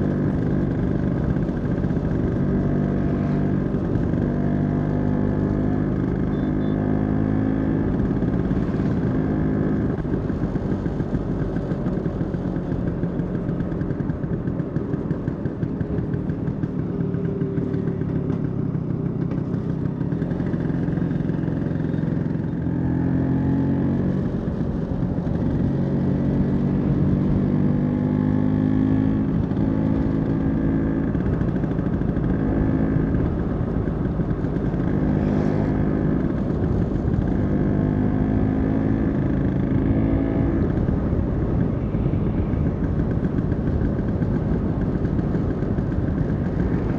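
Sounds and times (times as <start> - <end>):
scooter engine running: 0.0 - 46.9.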